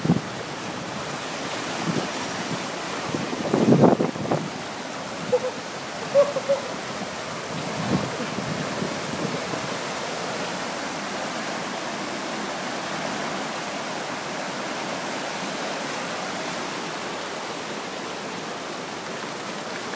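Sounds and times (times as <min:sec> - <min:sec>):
river rapids rushing over rocks: 0:00.0 - 0:19.9.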